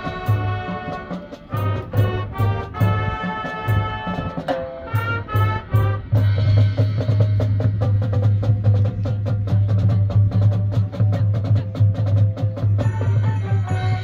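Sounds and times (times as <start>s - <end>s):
marching band playing: 0.0s - 14.0s.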